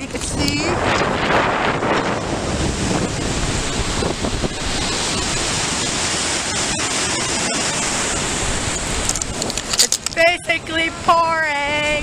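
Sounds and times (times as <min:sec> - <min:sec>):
wind on the microphone: 0:00.0 - 0:12.0
river water rushing: 0:01.0 - 0:12.0.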